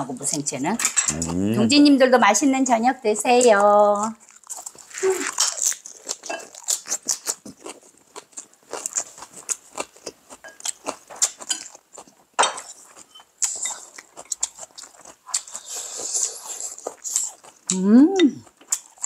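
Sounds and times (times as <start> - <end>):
chewing and wet mouth smacks: 3.4 - 19.0.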